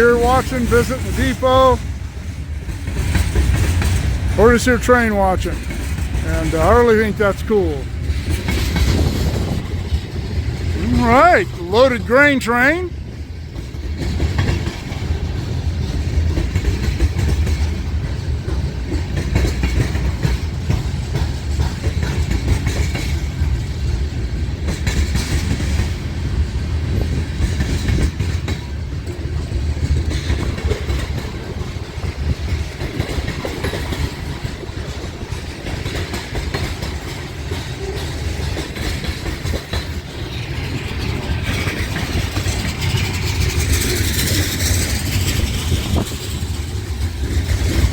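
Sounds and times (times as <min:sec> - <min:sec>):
wheels clicking over rail: 0:00.0 - 0:07.2, 0:13.2 - 0:47.9
freight train rumbling past: 0:00.0 - 0:47.9.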